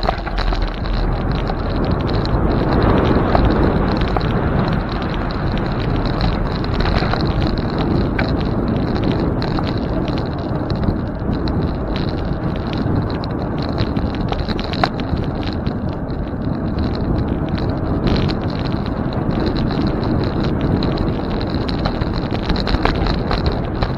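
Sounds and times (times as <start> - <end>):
small clicks and rattles: 0.0 - 23.9
tyre and road rumble: 0.0 - 23.9
wind on microphone: 0.0 - 23.9.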